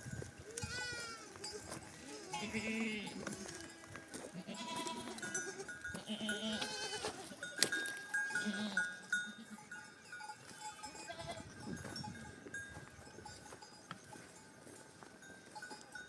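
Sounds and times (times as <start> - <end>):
sheep and goats bleating: 0.0 - 14.8
animal bells clinking: 0.0 - 16.0.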